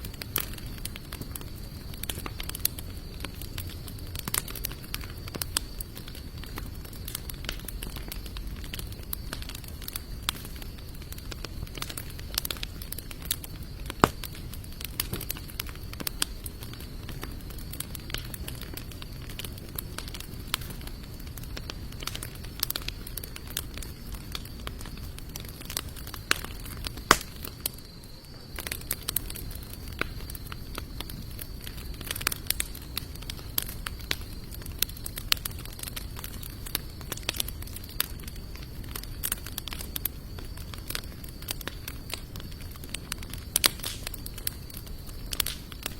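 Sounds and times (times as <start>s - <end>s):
campfire crackling: 0.0s - 45.9s
low hiss of burning: 0.0s - 45.9s
sharp pops of fire: 0.0s - 45.9s.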